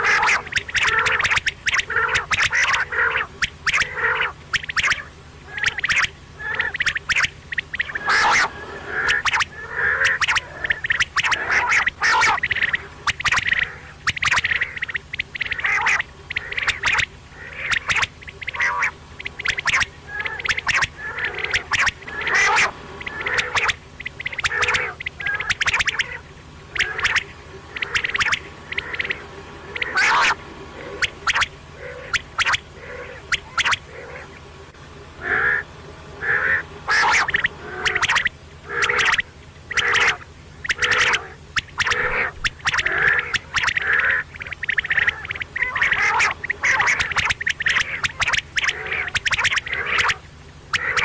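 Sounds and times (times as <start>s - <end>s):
quail calling: 0.0s - 51.0s.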